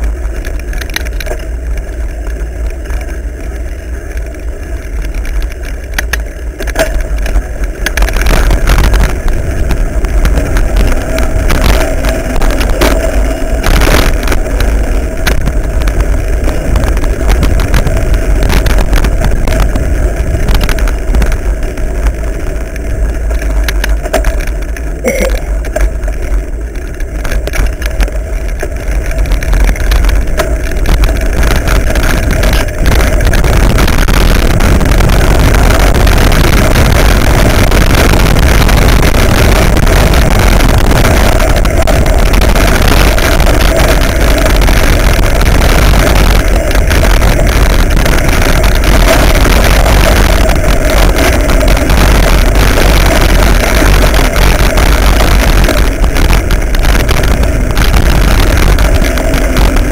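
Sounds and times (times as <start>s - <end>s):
bike knocks and rattles: 0.0s - 59.9s
tyres rushing on gravel: 0.0s - 59.9s
wind buffeting microphone: 0.0s - 59.9s.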